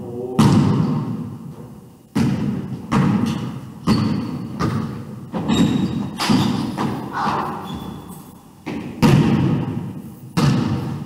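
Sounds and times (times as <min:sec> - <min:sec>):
basketball bouncing on hardwood floor: 0:02.1 - 0:11.0.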